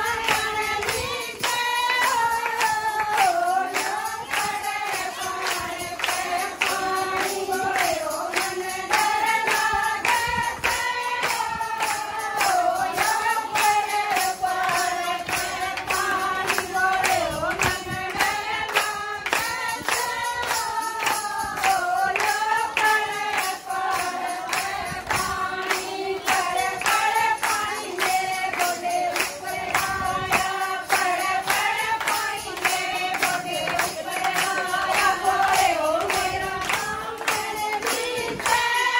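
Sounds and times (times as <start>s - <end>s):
hand clapping: 0.0s - 38.9s
women singing in unison: 0.0s - 38.9s.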